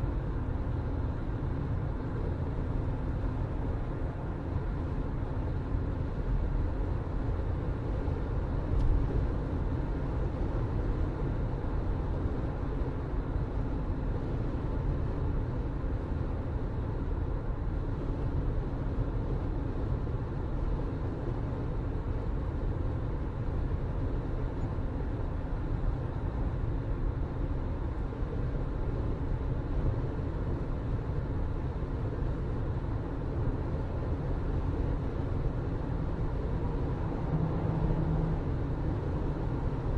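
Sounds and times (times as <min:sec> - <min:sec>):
vehicle rumbling in motion: 0:00.0 - 0:39.9.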